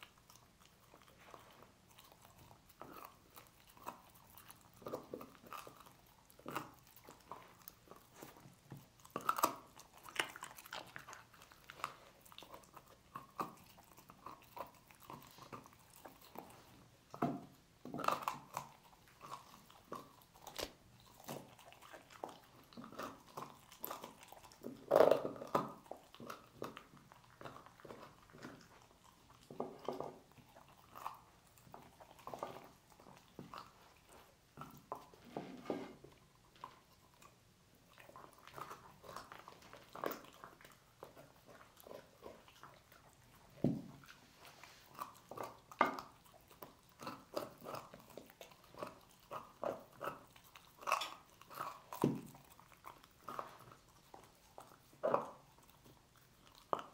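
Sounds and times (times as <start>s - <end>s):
dog gnawing on bones: 0.0s - 56.9s.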